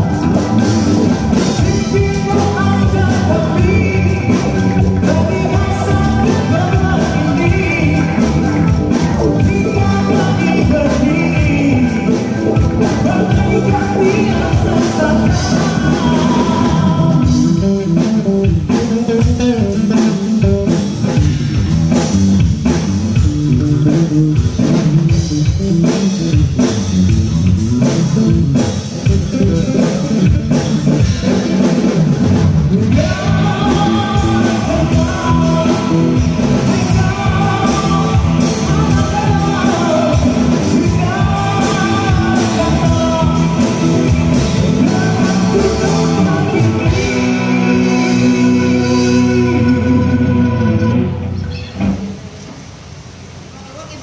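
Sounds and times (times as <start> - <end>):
high melody line: 0.0 - 20.7, 22.1 - 51.4
live rock band playing: 0.0 - 52.4.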